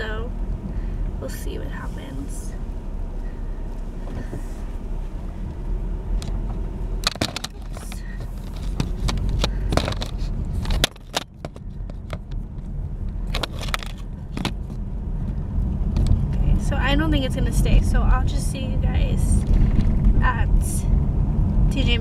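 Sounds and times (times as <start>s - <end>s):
car engine idling hum: 0.0s - 22.0s.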